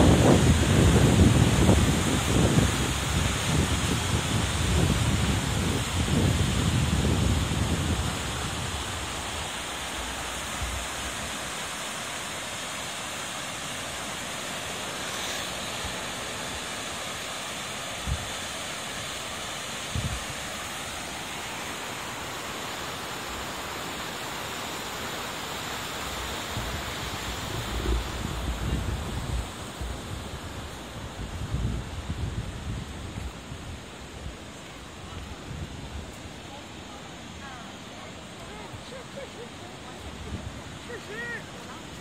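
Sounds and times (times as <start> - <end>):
river rushing: 0.0 - 42.0.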